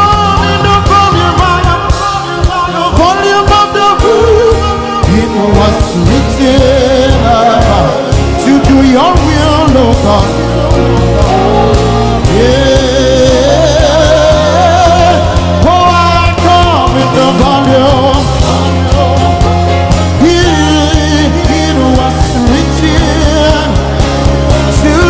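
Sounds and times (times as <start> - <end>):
band with bass and drums: 0.0 - 25.0.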